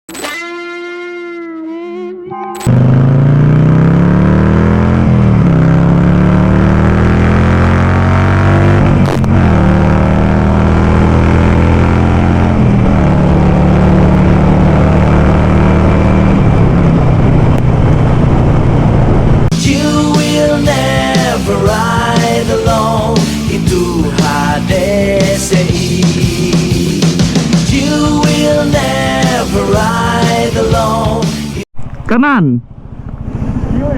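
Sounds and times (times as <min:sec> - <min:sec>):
motorcycle engine revving through gears: 0:02.6 - 0:30.2, 0:31.2 - 0:33.9.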